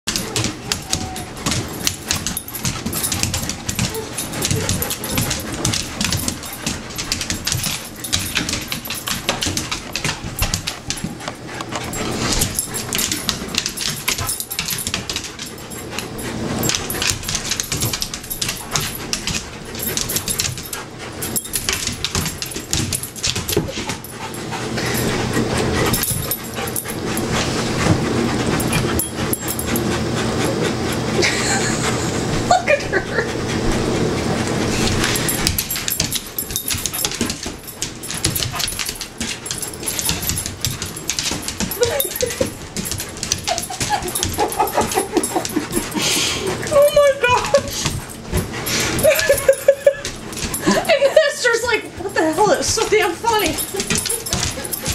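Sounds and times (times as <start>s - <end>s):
dog nails clicking on hardwood floor: 0.1s - 31.3s, 33.5s - 54.9s
dog panting heavily: 0.1s - 54.9s.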